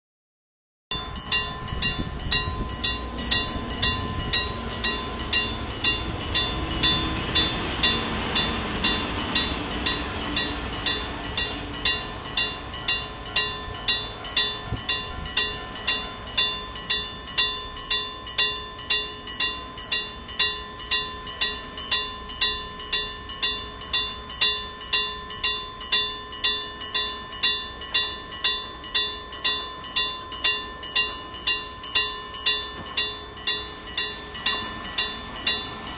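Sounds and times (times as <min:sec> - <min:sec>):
level-crossing bell clanging: 0:00.9 - 0:35.9
train rumble: 0:00.9 - 0:35.9.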